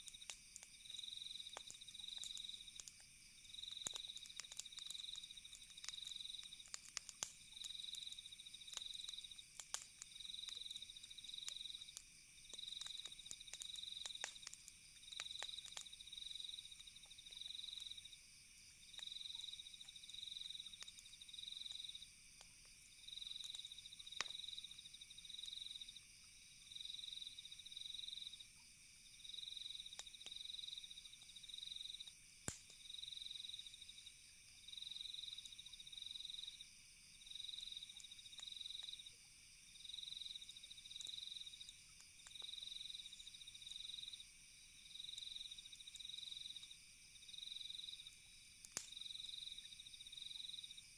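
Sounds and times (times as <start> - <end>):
campfire crackling pops: 0.0 - 25.7, 29.7 - 33.7, 37.2 - 49.6
crickets trilling: 0.0 - 50.9
high chorus of night insects: 0.0 - 50.9.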